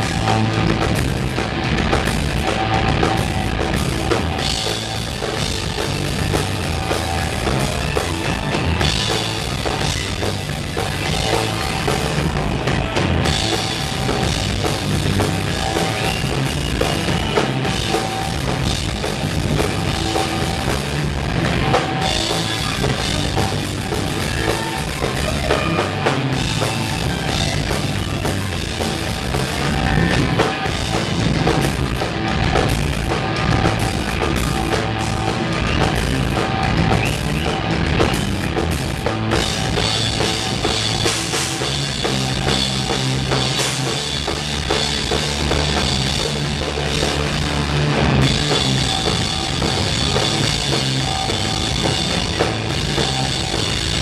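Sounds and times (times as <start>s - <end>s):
amplified electric guitars: 0.0s - 54.0s
drum kit: 0.0s - 54.0s.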